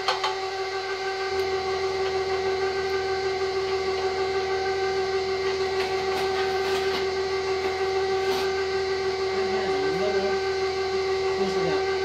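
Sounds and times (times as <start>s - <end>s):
mixer motor whining: 0.0s - 12.0s.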